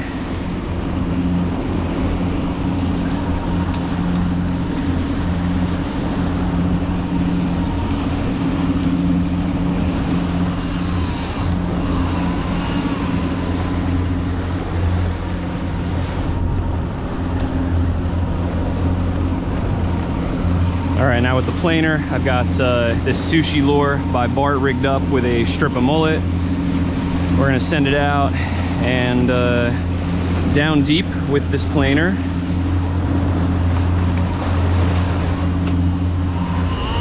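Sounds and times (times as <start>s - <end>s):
thin high whine: 0.0s - 19.4s, 20.3s - 37.0s
boat engine humming: 0.0s - 37.0s
rushing water noise: 0.0s - 37.0s.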